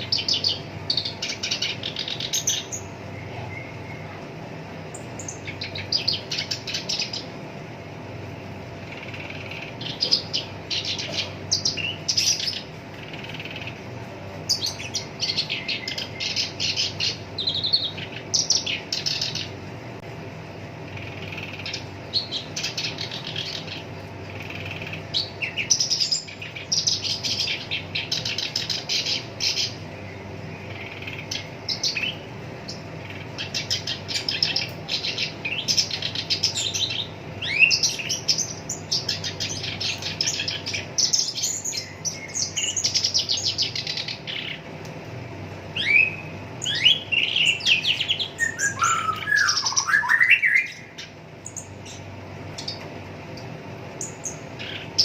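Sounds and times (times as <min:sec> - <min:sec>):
reed warbler singing: 0:00.0 - 0:44.7, 0:45.3 - 0:55.0.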